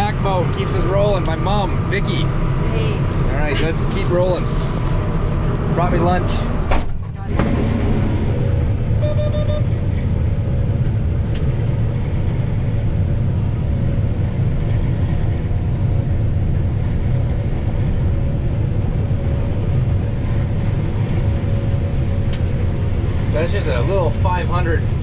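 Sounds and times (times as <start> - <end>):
combine harvester droning: 0.0 - 25.0.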